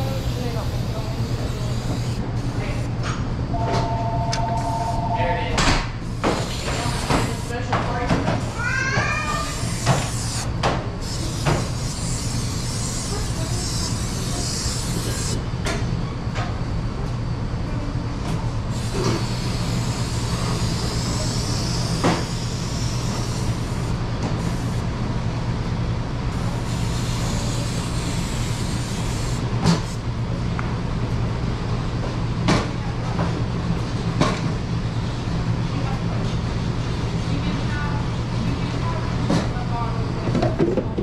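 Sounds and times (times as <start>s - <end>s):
kitchen machinery hum: 0.0s - 41.0s.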